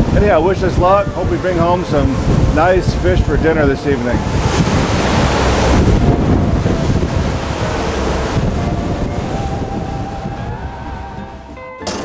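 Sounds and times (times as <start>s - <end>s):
boat wake water rushing: 0.0s - 11.6s
wind buffeting microphone: 0.0s - 11.6s.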